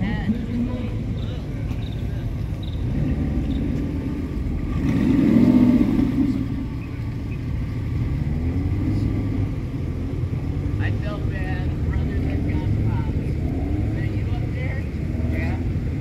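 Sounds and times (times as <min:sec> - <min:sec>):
steady low rumble: 0:00.0 - 0:16.0
car engine passing by: 0:02.4 - 0:16.0.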